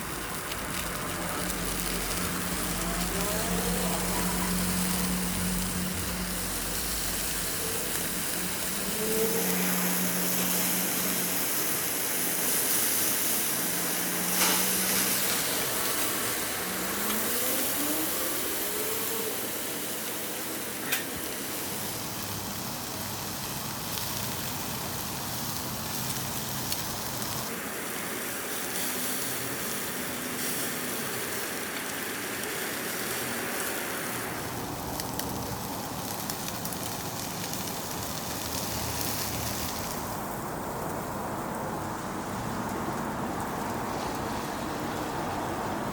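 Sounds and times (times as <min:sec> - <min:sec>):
steak sizzling on a grill: 0:00.0 - 0:45.9.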